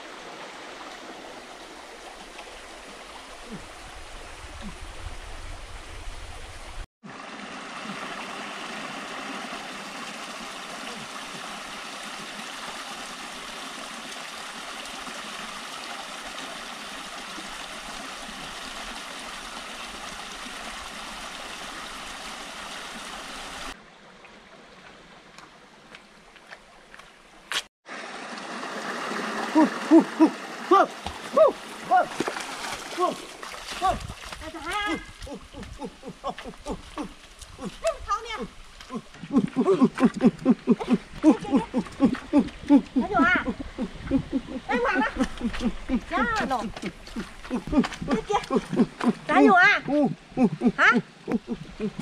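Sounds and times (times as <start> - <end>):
stream running over rocks: 0.0 - 52.0.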